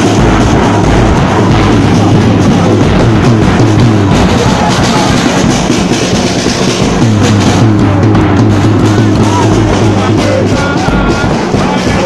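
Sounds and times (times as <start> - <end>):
bass drum: 0.0 - 12.0
drum band music: 0.0 - 12.0.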